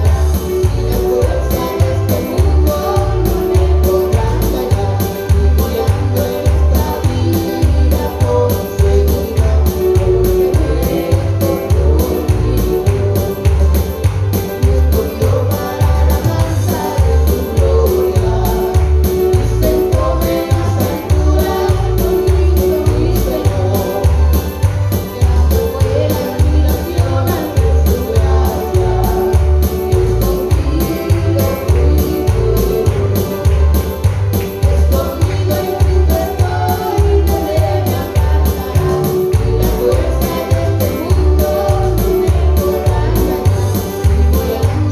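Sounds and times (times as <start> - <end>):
band with heavy bass beat: 0.0 - 44.9
voices singing gospel: 0.0 - 44.9.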